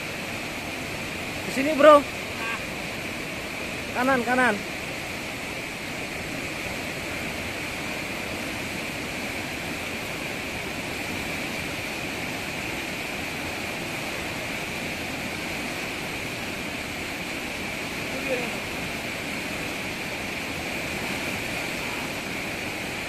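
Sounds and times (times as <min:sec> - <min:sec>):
river rapids rushing over rocks: 0:00.0 - 0:23.0.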